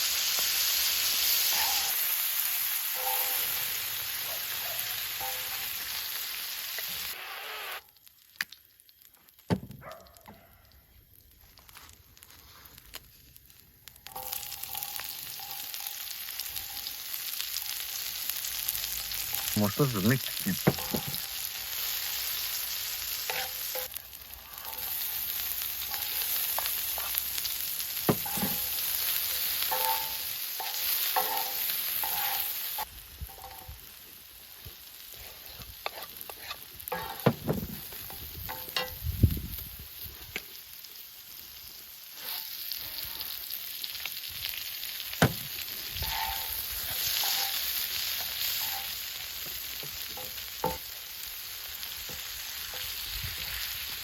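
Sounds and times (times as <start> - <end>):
food sizzling in a frying pan: 0.0 - 9.5, 11.0 - 54.0.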